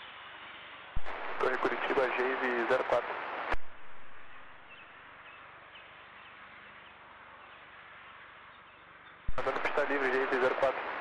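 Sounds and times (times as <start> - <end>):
radio channel hiss: 0.0 - 8.5, 9.3 - 11.0.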